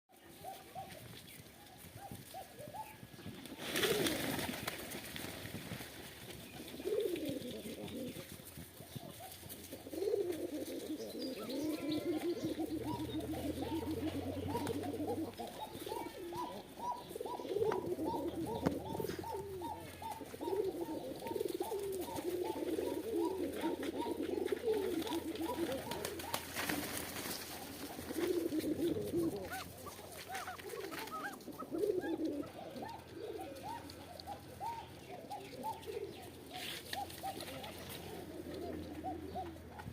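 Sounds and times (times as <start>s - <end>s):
pigeons cooing: 0.2s - 39.9s.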